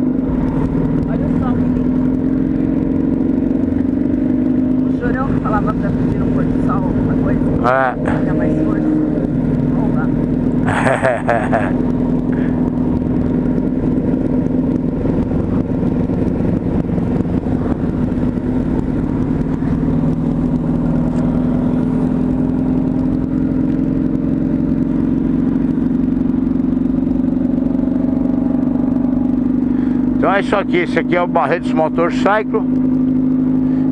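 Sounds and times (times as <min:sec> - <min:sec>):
motorcycle engine cruising: 0:00.0 - 0:33.9.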